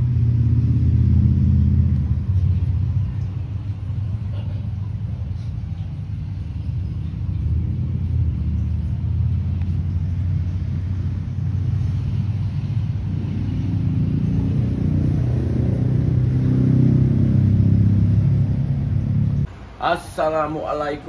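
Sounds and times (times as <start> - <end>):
low mechanical hum and rumble: 0.0 - 21.0.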